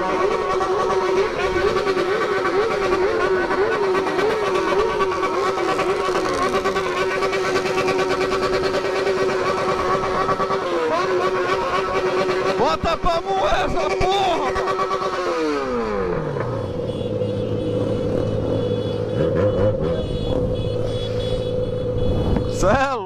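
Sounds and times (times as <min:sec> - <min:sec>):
motorcycle engine revving: 0:00.0 - 0:22.7.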